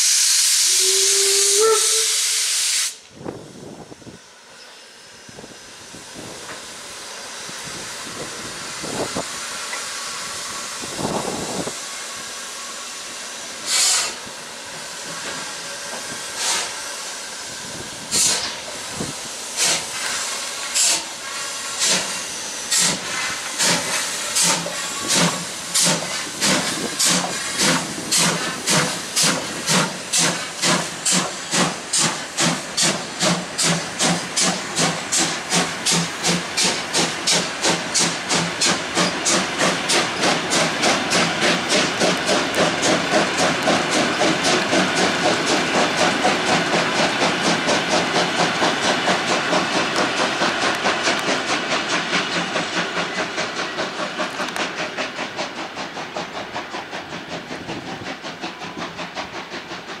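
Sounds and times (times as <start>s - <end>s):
steam locomotive exhaust chuffs: 0.0s - 4.2s, 4.9s - 60.0s
steam hissing: 0.0s - 60.0s.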